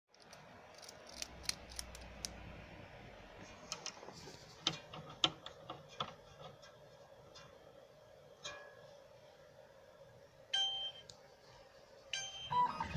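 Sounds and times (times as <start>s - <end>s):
faint steady hum: 0.1s - 12.9s.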